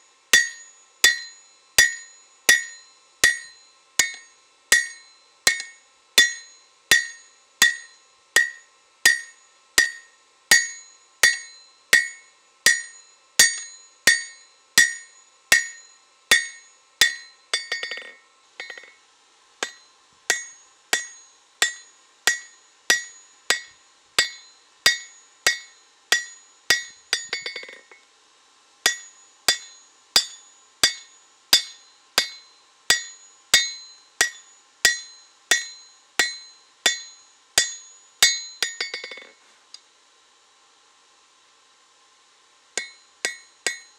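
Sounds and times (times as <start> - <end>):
hammer striking blade on anvil: 0.3 - 19.0, 19.6 - 28.0, 28.8 - 39.4, 42.8 - 43.9
blade clattering on anvil: 0.4 - 19.0, 19.6 - 28.0, 28.9 - 39.4, 42.8 - 43.9.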